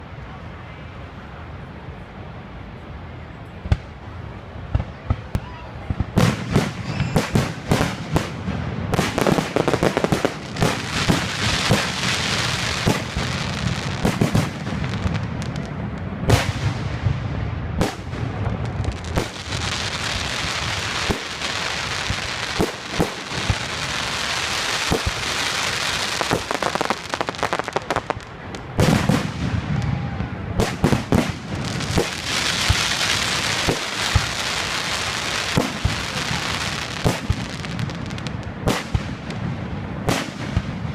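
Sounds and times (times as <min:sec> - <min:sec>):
fireworks crackling hiss: 0:03.7 - 0:40.9
fireworks bursting: 0:04.7 - 0:40.9.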